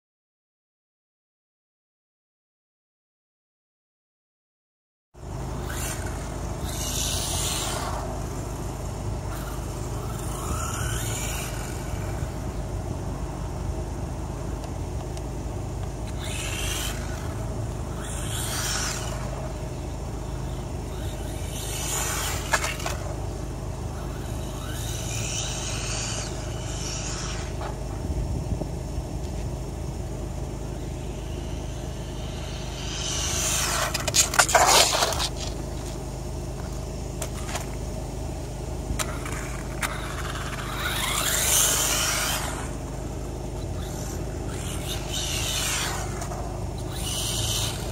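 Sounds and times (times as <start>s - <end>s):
toy car motor whine: 5.3s - 47.9s.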